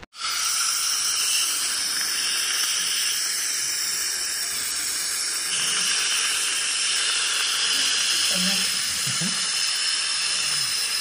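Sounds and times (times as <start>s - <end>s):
dental scaler hissing: 0.0s - 11.0s.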